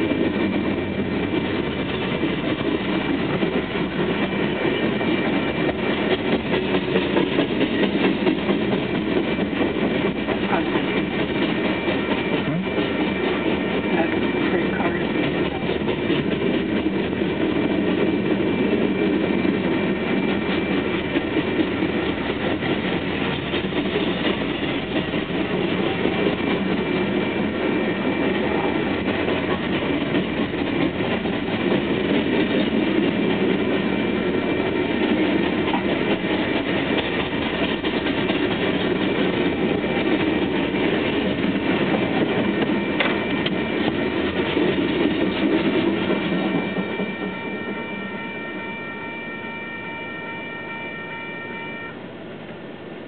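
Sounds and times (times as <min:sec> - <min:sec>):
steel wheels clattering on rails: 0:00.0 - 0:50.4.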